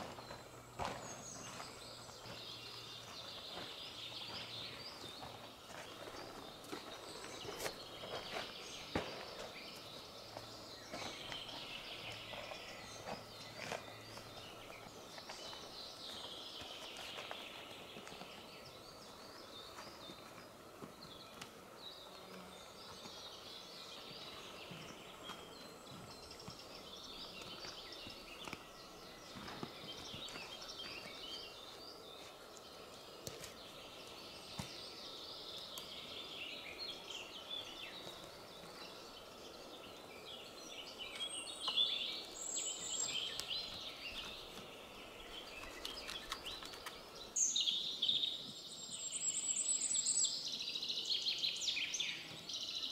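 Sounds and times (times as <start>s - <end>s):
small birds chirping and singing: 0.0s - 52.9s.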